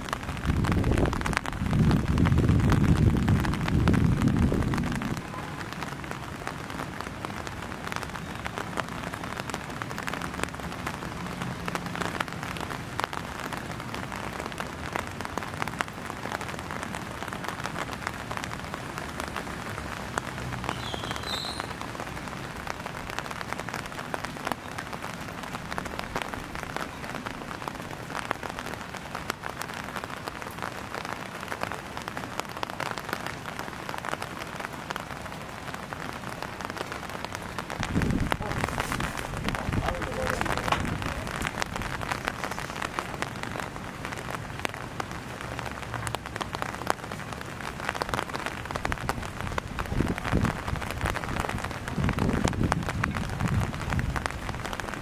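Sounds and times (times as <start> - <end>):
rain falling: 0.0 - 55.0
raindrop hits: 0.0 - 55.0.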